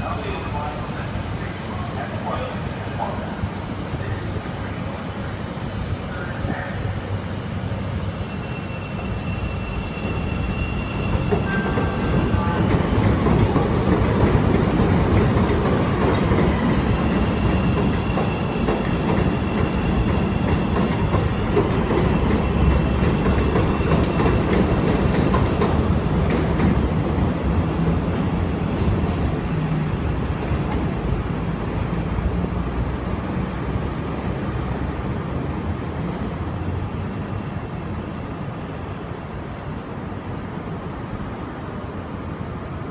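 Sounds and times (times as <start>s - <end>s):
high steady train whine: 0.0s - 42.9s
train rumble and wheel clatter: 0.0s - 42.9s.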